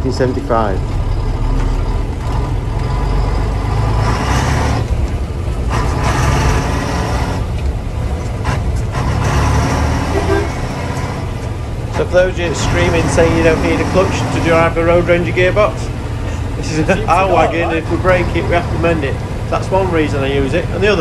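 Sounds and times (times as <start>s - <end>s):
lorry diesel engine under load: 0.0s - 21.0s.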